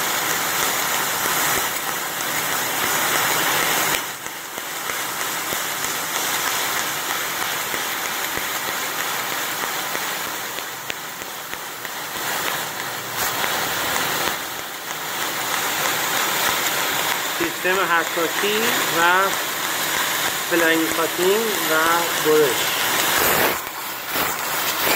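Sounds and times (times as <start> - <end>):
laser cutter gas jet hissing: 0.0 - 24.9.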